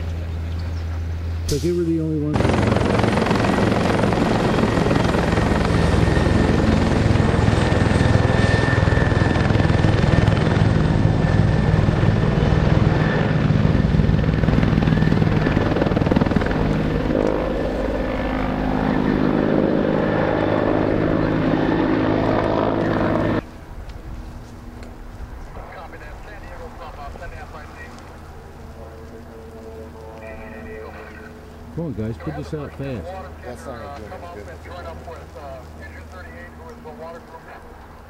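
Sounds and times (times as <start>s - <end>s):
helicopter rotor beating: 0.0s - 23.5s, 24.6s - 38.0s.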